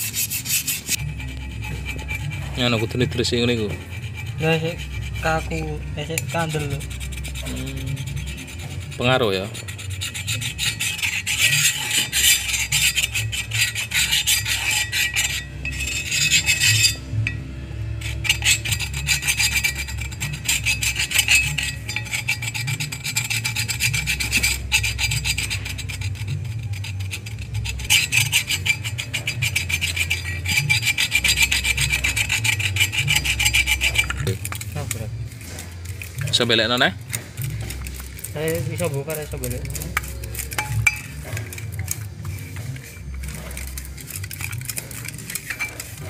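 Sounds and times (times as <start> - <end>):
screwdriver scraping metal drum: 0.0 - 46.0.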